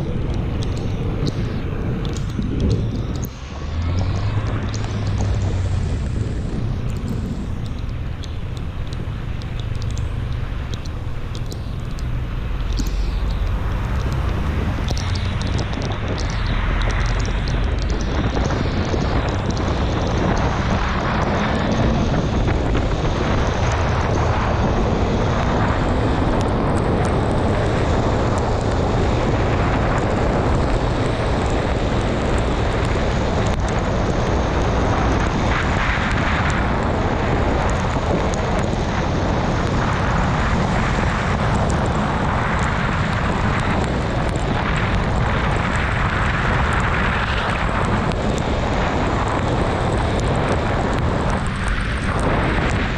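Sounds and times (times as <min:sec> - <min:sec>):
wind rush over microphone: 0:00.0 - 0:52.9.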